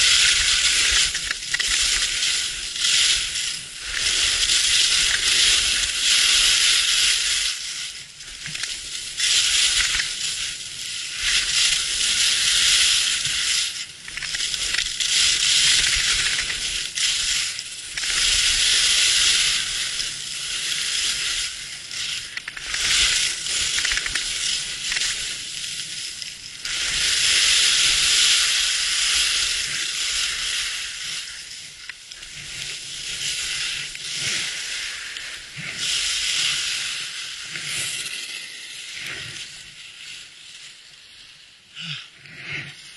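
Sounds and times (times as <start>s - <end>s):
skis scraping on snow: 0.0s - 41.6s.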